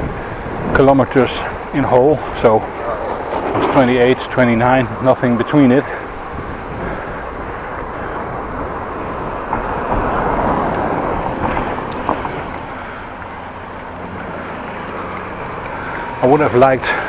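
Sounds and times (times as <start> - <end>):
road traffic noise: 0.0 - 17.0
vehicle passing by: 0.0 - 17.0.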